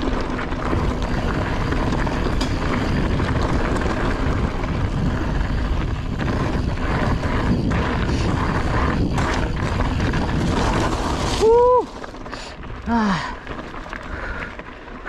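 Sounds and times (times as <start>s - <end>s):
wind buffeting microphone: 0.0s - 14.6s
bike clicking and rattling: 0.0s - 15.0s
bike tyres rolling over rocky dirt: 0.0s - 15.0s.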